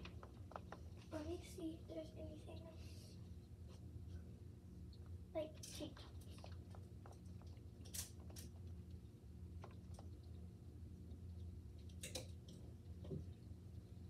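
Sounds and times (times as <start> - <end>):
faint clicks and rustles: 0.0 - 14.0
low room hum: 0.0 - 14.0.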